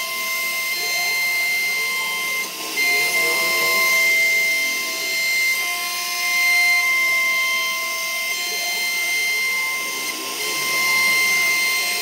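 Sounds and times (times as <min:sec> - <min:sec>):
hiss of bit cutting wood: 0:00.0 - 0:12.0
router spindle whining: 0:00.0 - 0:12.0.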